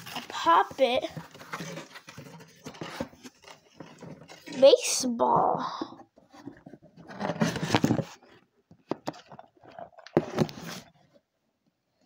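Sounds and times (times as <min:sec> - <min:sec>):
phone handling rustling and scraping: 0:00.0 - 0:04.9, 0:06.0 - 0:11.2.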